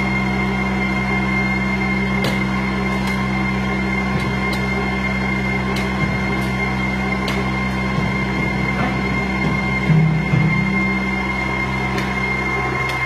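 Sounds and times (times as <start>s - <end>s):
machine humming with whine: 0.0s - 13.0s.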